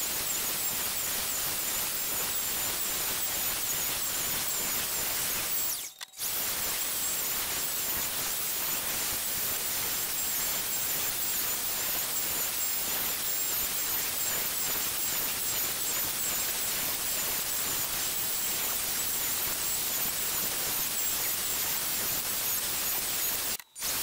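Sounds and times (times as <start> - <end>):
router whining through wood: 0.3 - 24.0.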